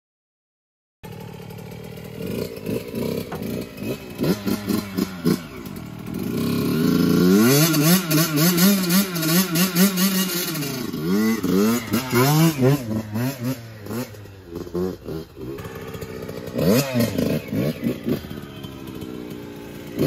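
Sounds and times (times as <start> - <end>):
dirt bike engine revving: 1.1 - 20.0.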